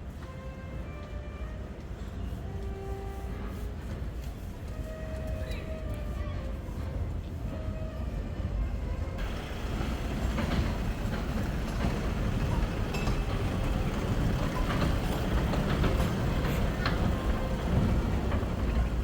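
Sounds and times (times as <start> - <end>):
city street rumble: 0.0 - 19.0.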